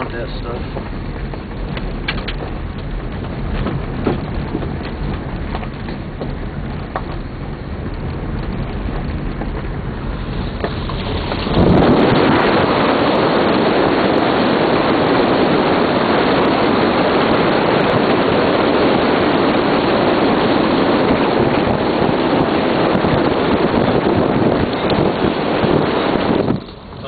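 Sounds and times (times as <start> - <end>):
wind and road noise: 0.0 - 27.0
wind buffeting microphone: 0.0 - 27.0.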